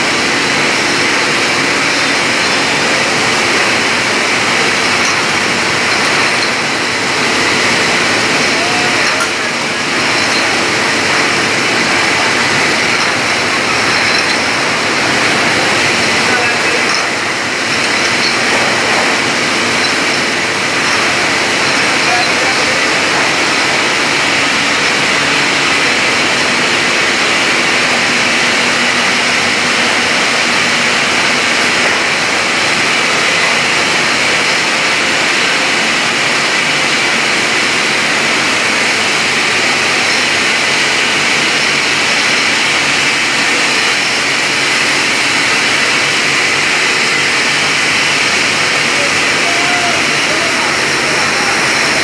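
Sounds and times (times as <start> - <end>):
bottling machinery din: 0.0 - 52.0.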